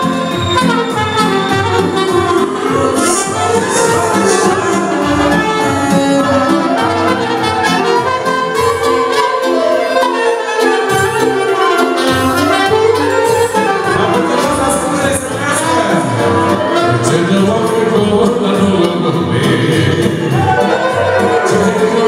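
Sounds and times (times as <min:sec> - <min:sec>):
live band dance music with horns: 0:00.0 - 0:22.0.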